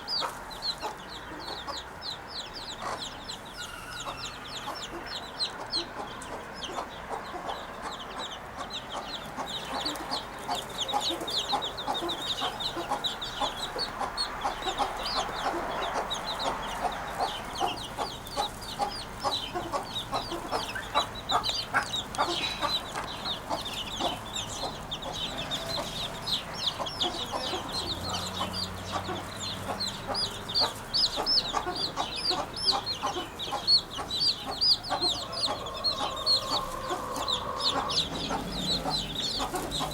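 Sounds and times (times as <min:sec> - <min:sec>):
lower chattering bird calls: 0:00.0 - 0:39.9.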